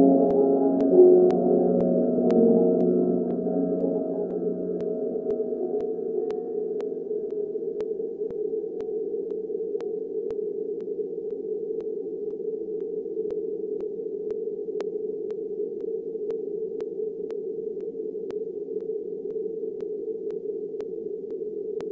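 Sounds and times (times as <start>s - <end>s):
sharp ticks: 0.0s - 21.9s.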